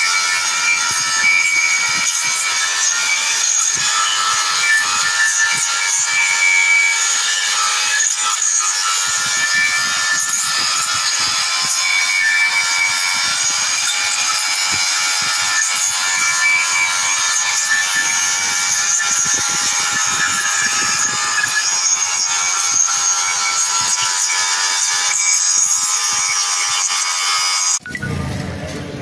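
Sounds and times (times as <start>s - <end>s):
angle grinder grinding steel: 0.0s - 28.1s.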